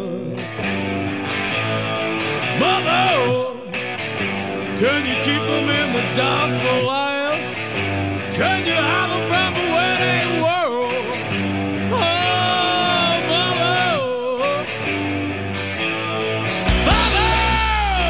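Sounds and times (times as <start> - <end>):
song with singer and drums: 0.0 - 15.8, 16.4 - 18.0.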